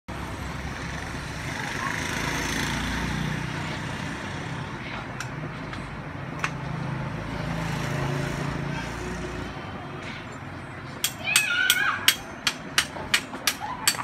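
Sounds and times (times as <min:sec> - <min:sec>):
street traffic: 0:00.1 - 0:14.0.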